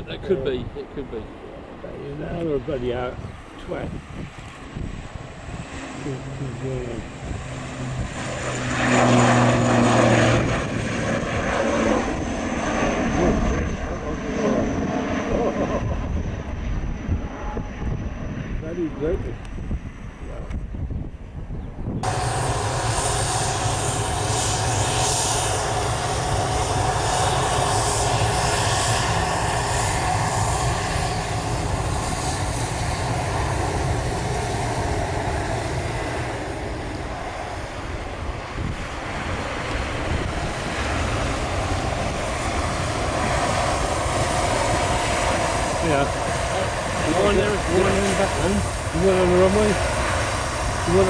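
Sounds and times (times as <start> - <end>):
jet engine roar and whine: 0.0 - 51.0.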